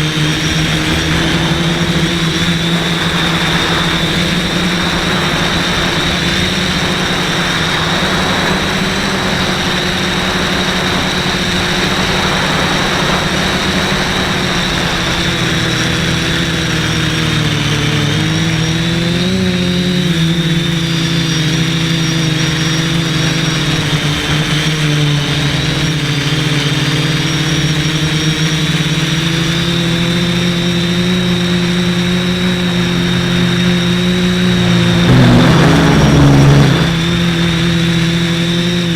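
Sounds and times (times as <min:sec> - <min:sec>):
quadcopter propellers humming: 0:00.0 - 0:38.9.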